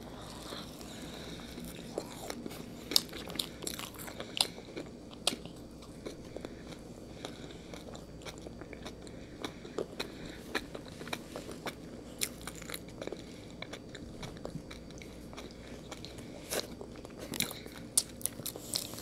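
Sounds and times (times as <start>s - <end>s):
people chewing: 0.0s - 19.0s.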